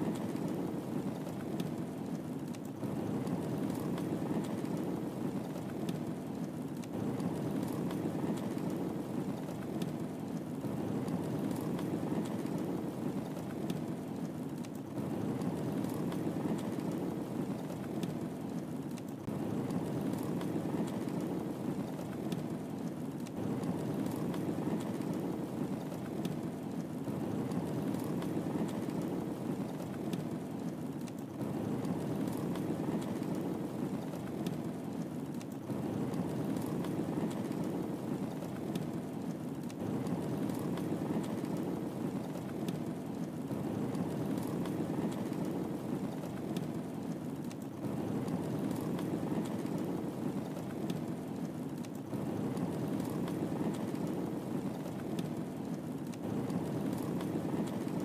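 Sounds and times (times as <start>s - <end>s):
fire burning: 0.0s - 58.0s
fire crackling and popping: 0.0s - 58.0s.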